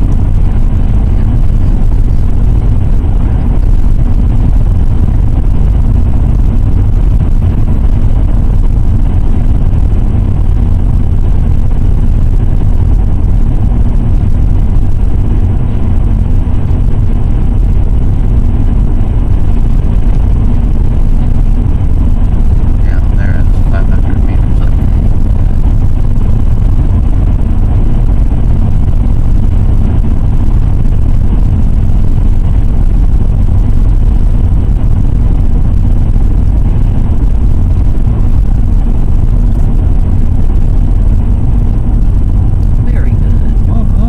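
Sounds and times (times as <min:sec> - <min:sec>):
car interior road rumble: 0:00.0 - 0:44.0.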